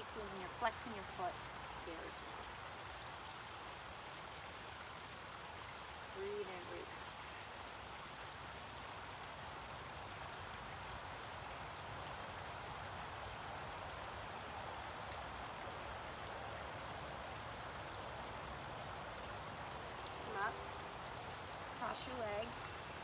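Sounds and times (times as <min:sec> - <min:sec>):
pond water trickling and splashing: 0:00.0 - 0:23.0.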